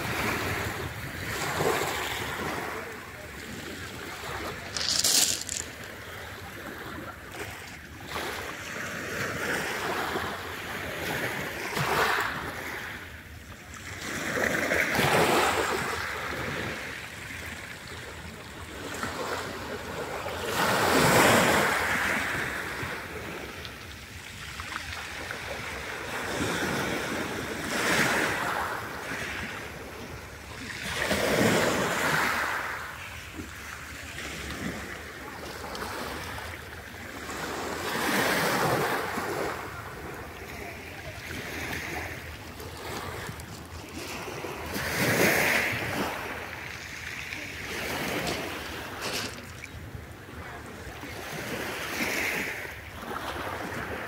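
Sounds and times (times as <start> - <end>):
waves washing over pebbles: 0.0 - 13.1, 13.8 - 54.0.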